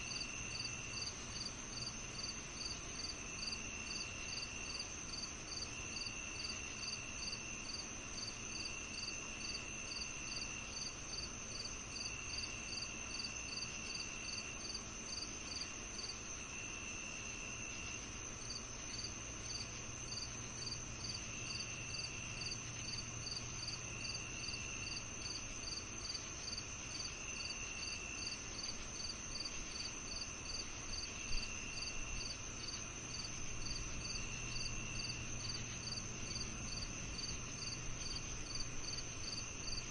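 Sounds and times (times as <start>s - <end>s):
high cricket trill: 0.0s - 39.9s
insect chirping: 0.0s - 39.9s
lower insect trill: 0.0s - 39.9s.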